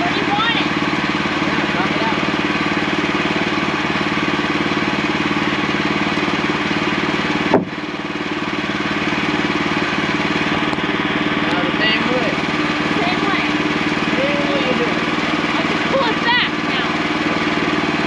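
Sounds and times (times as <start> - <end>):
sawmill engine idling: 0.0 - 18.0.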